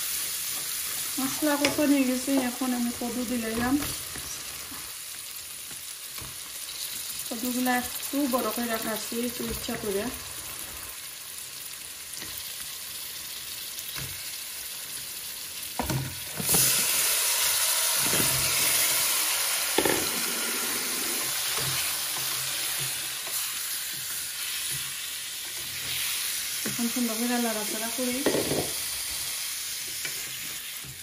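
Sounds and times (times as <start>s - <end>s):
oil sizzling in a pot: 0.0s - 31.0s.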